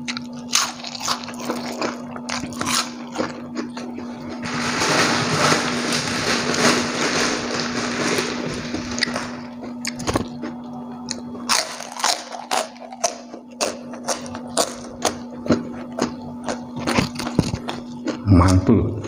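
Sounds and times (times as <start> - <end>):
crunching crispy food: 0.0 - 18.7.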